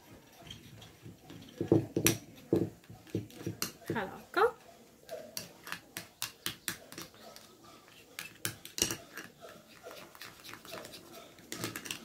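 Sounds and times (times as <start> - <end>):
spoon stirring thick paste: 0.0 - 12.0.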